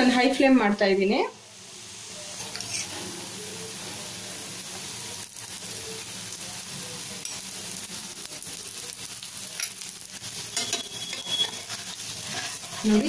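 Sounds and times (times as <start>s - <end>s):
batter sizzling in a pan: 0.0s - 13.0s.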